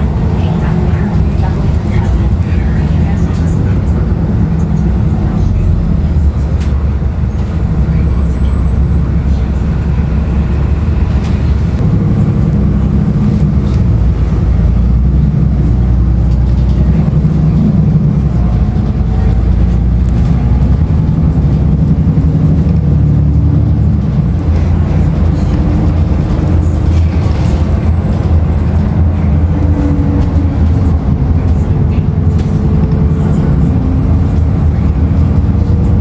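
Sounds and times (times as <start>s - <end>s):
bus diesel engine running: 0.0s - 36.0s
road noise: 0.0s - 36.0s.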